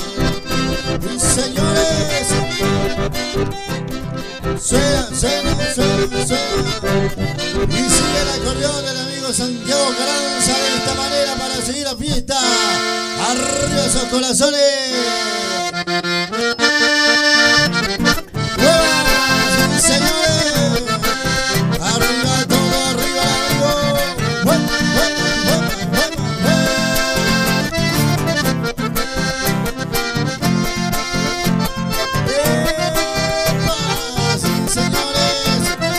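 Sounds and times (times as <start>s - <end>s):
steady bass rhythm: 0.0s - 12.5s, 16.6s - 35.9s
accordions playing: 0.0s - 35.9s
acoustic guitar: 0.0s - 35.9s.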